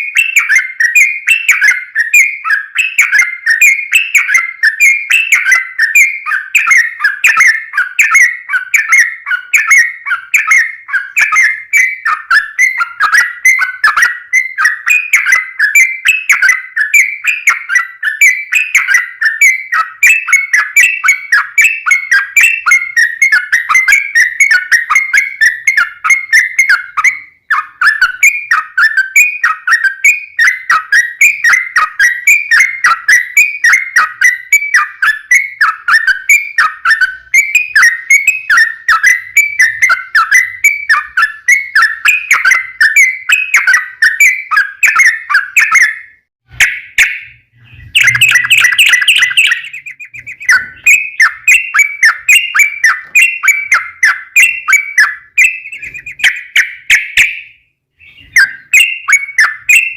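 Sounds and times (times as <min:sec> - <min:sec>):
bird singing whistled notes: 0:00.0 - 0:59.9.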